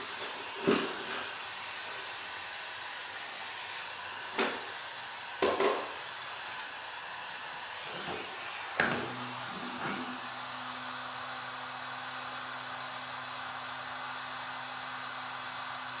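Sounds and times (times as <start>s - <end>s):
heat gun blowing: 0.0s - 16.0s.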